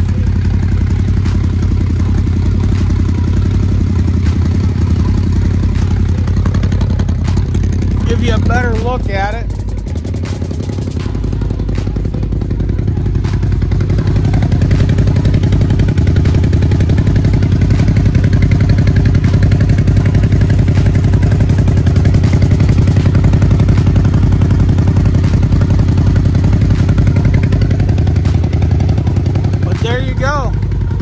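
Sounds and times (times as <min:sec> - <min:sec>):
engine idling through exhaust: 0:00.0 - 0:31.0.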